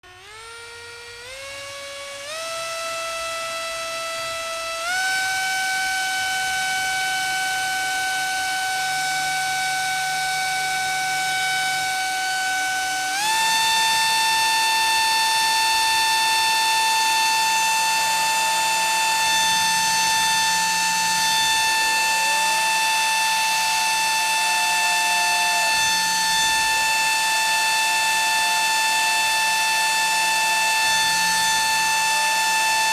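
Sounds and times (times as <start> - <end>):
small electric fan motor whining: 0.0 - 32.9.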